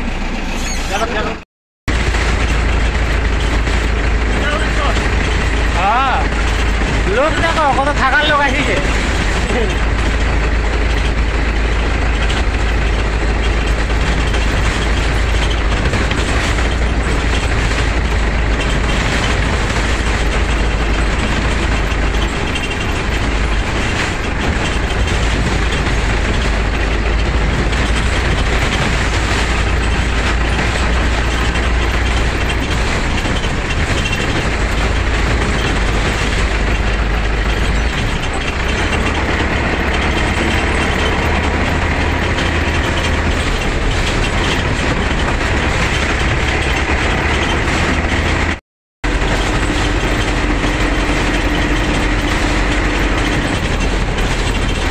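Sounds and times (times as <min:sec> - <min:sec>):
bus engine running: 0:00.0 - 0:54.9
loud road noise: 0:00.0 - 0:54.9.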